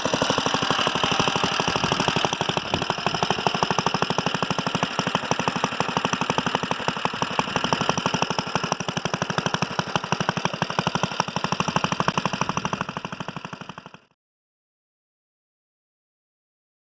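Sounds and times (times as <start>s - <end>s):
single-cylinder engine running: 0.0s - 14.2s.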